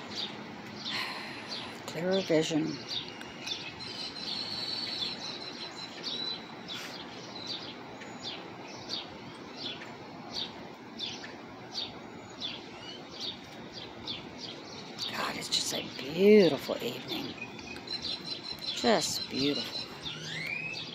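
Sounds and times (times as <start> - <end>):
faint outdoor hiss: 0.0 - 20.9
high down-slurred bird chirps: 0.0 - 20.9.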